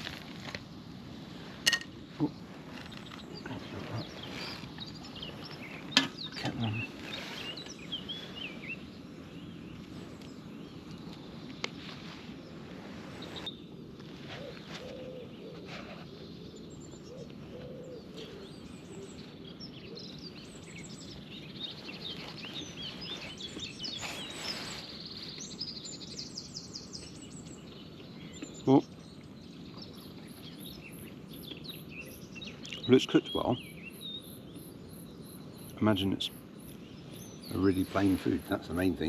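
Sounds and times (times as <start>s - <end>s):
lower bird calls: 0.0s - 39.0s
songbirds chirping and trilling: 0.0s - 39.0s.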